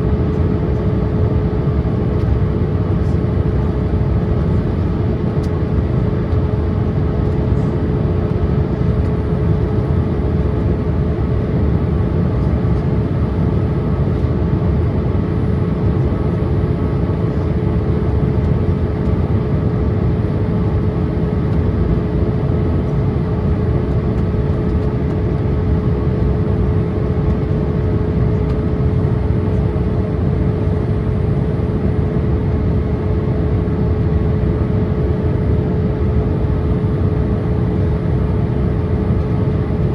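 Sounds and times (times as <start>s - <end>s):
constant mid-pitched hum: 0.0s - 39.9s
engine and airflow rumble: 0.0s - 39.9s.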